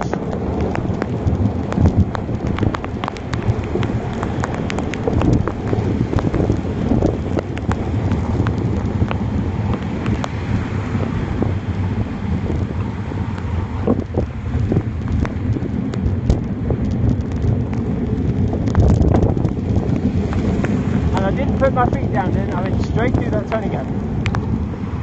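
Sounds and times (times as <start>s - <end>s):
rain ticks: 0.0s - 25.0s
wind buffeting microphone: 0.0s - 25.0s.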